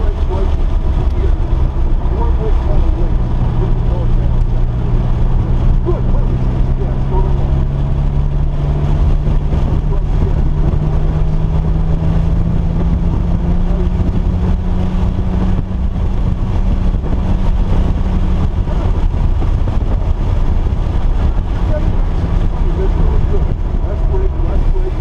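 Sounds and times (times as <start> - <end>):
heavy low rumble: 0.0 - 25.0
vehicle engine running hard: 0.0 - 25.0.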